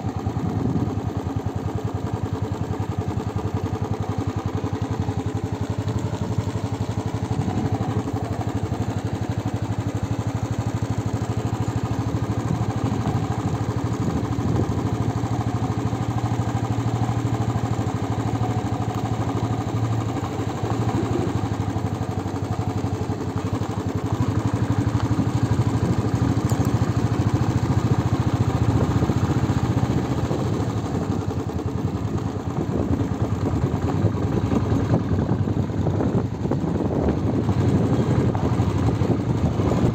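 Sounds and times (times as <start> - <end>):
vehicle engine running: 0.0 - 39.9
road noise: 4.6 - 39.9.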